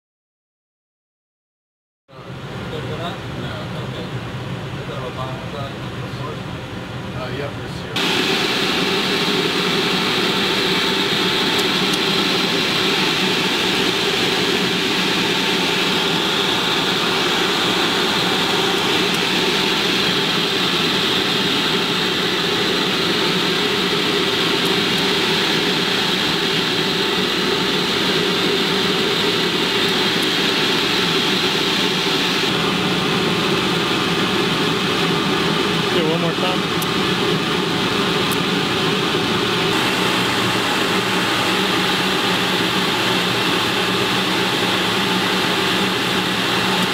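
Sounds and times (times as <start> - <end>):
machinery droning: 2.1 - 46.9.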